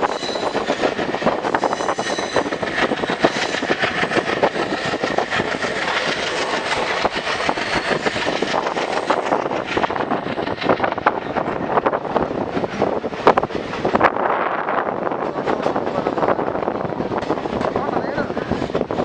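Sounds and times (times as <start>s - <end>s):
train wheels clattering on track: 0.0s - 19.0s.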